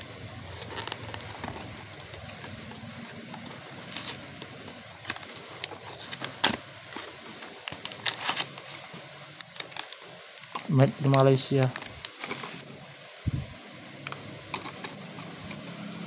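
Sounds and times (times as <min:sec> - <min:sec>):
cardboard packaging rustling: 0:00.0 - 0:15.9.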